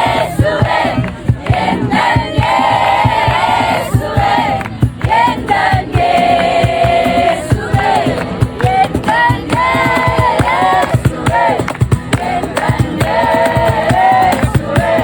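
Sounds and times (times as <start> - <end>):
crowd singing worship song: 0.0 - 15.0.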